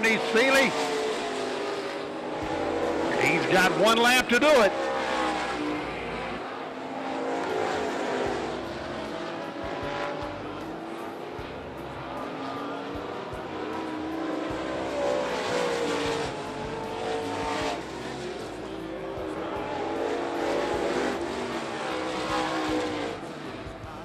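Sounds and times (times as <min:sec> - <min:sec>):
race cars passing at speed: 0:00.0 - 0:24.0.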